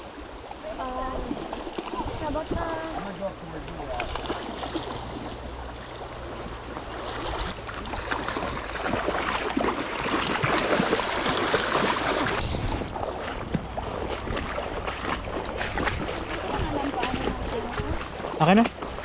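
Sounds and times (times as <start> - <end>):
shallow river over gravel: 0.0 - 19.0
fish splashing in water: 0.4 - 19.0.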